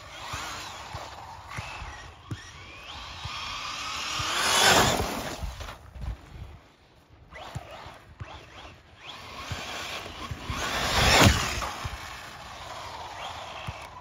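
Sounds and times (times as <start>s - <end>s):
rc buggy electric motor: 0.0s - 14.0s.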